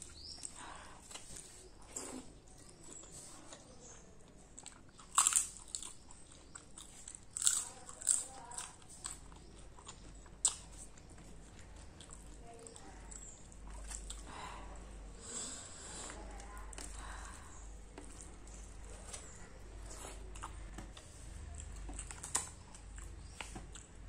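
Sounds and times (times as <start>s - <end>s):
quiet chewing: 0.0s - 24.0s.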